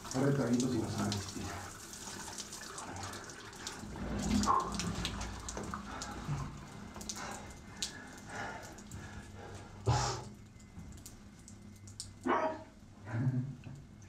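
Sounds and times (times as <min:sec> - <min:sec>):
water dripping in a shower: 0:00.0 - 0:14.0.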